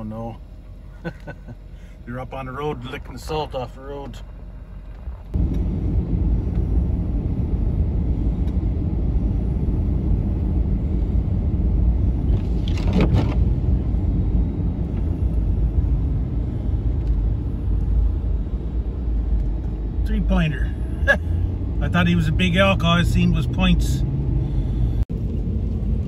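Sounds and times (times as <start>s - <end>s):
vehicle engine and tyres rumbling: 0.0s - 26.0s.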